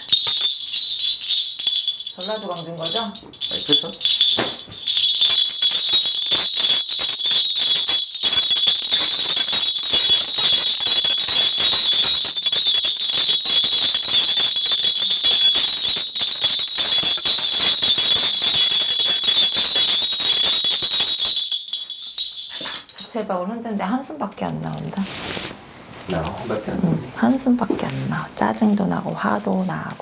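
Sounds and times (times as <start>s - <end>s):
bell rattle jingling: 0.0s - 24.8s.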